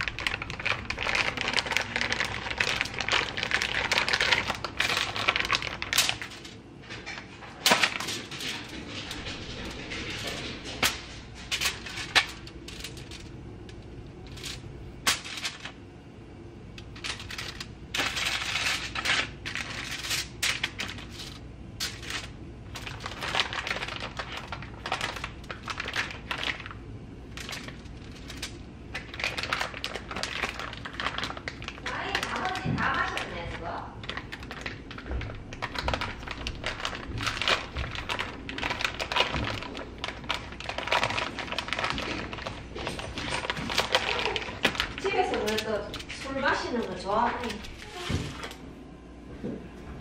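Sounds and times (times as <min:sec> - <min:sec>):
aluminium foil crinkling: 0:00.0 - 0:16.0, 0:16.7 - 0:48.6
plastic package rustling: 0:00.0 - 0:16.0, 0:16.7 - 0:48.6.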